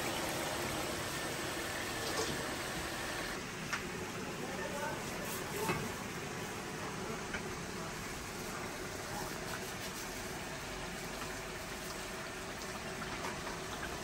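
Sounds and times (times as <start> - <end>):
water boiling in pot: 0.0 - 14.0.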